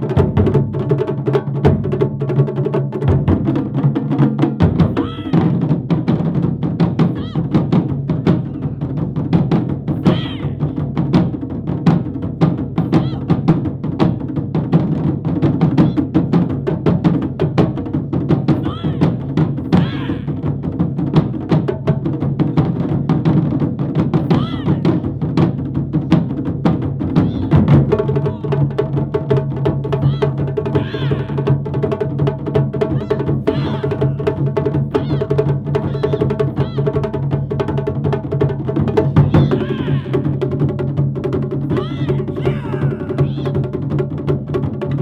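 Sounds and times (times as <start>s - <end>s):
taiko drum ensemble: 0.0s - 45.0s.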